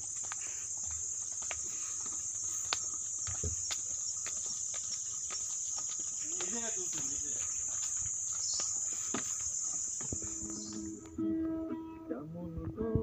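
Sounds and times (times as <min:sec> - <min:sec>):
footfalls on dirt path: 0:00.0 - 0:11.1
insects droning: 0:00.0 - 0:12.5.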